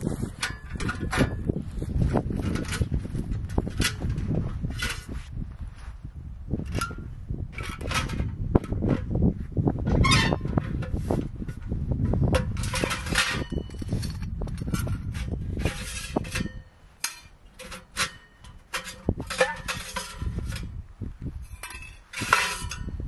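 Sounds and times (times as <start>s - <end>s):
metal clinking and scraping: 0.1s - 5.3s, 6.6s - 9.1s, 9.9s - 23.0s.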